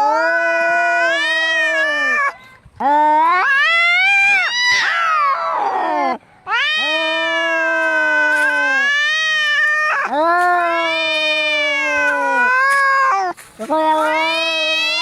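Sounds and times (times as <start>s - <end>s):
cats yowling: 0.0s - 15.0s.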